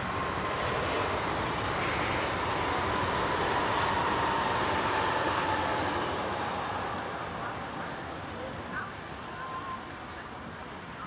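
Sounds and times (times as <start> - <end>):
rushing engine noise: 0.0 - 11.0.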